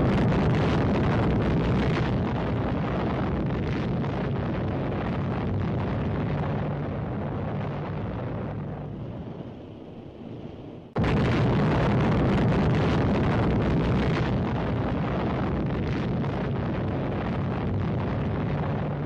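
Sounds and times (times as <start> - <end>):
deep rumble of explosion: 0.0 - 19.0.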